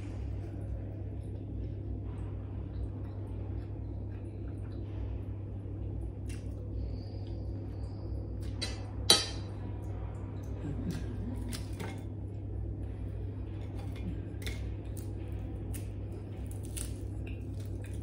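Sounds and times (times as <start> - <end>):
low hum: 0.0 - 18.0
quiet eating sounds: 0.0 - 18.0.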